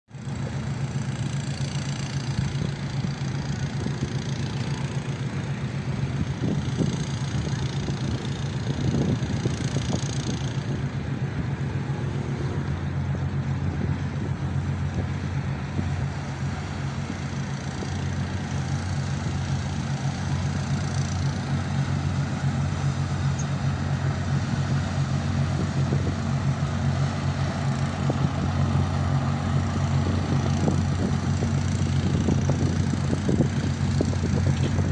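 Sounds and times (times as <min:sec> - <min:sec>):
boat engine droning: 0:00.1 - 0:34.9.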